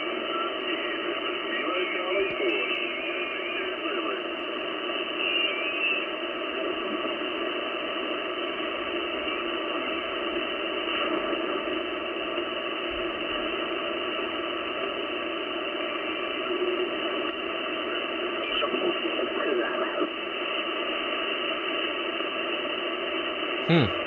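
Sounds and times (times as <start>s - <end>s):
radio band noise hiss: 0.0s - 22.6s.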